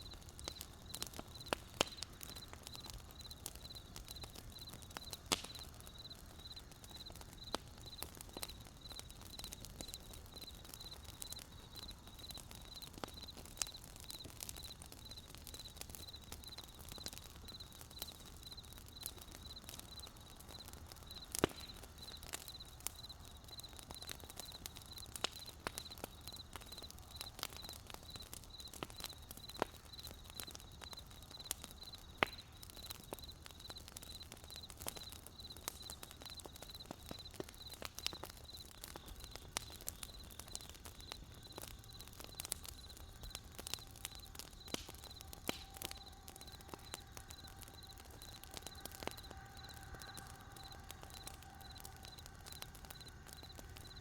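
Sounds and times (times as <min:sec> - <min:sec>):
campfire crackling: 0:00.0 - 0:54.0
cricket chirping: 0:00.0 - 0:54.0.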